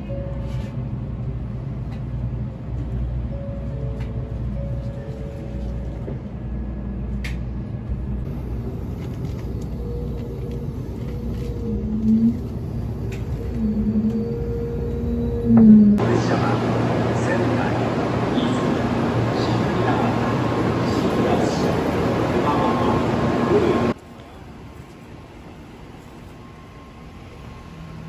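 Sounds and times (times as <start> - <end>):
train rumble inside carriage: 0.0 - 28.0.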